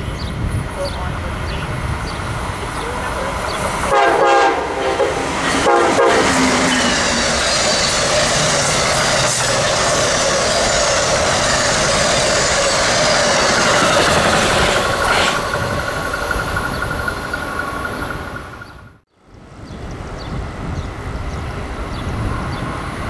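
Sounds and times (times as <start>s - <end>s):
passenger train rushing past: 0.0s - 23.0s.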